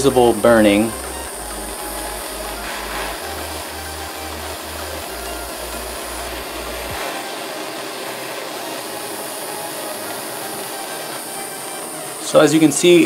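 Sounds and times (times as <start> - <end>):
blowtorch hissing: 0.0 - 13.0.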